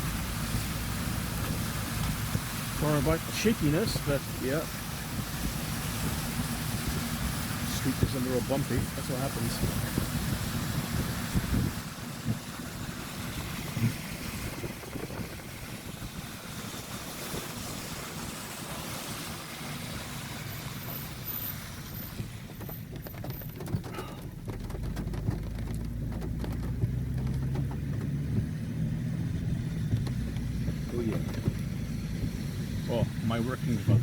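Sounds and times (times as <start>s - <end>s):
tyres hissing on wet road: 0.0s - 24.2s, 24.8s - 34.0s
low engine hum: 0.0s - 34.0s
rain: 0.0s - 34.0s.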